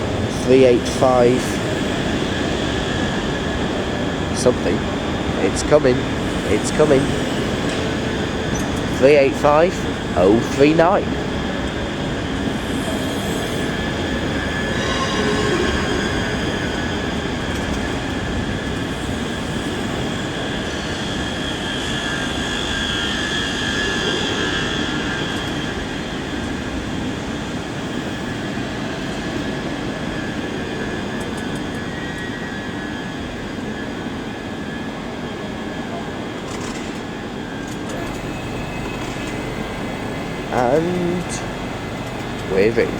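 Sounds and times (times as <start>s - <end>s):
electric train rumbling and whining: 0.0s - 42.9s.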